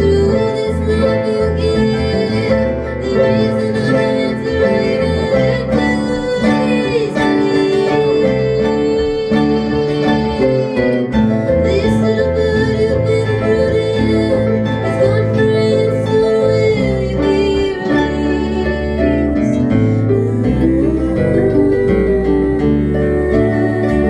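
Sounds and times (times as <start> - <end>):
acoustic guitar playing: 0.0 - 24.0
harp playing: 0.0 - 24.0.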